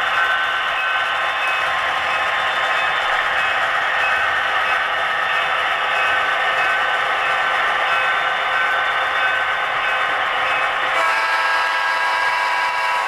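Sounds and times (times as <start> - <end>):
model train whining: 0.0 - 13.0.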